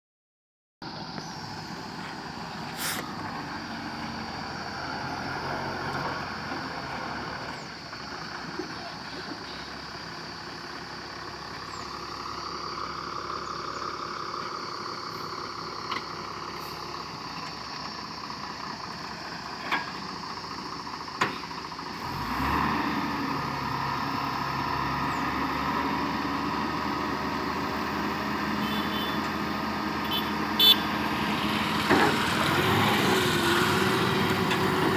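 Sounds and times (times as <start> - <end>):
heavy diesel engine running: 0.8 - 34.9.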